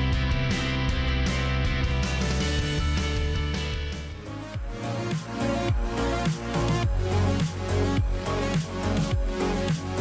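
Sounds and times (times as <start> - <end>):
instrumental theme music: 0.0 - 10.0.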